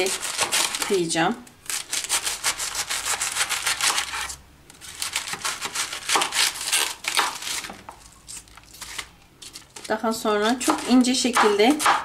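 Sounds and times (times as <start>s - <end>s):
knife cutting cabbage: 0.0s - 8.4s, 9.8s - 12.0s.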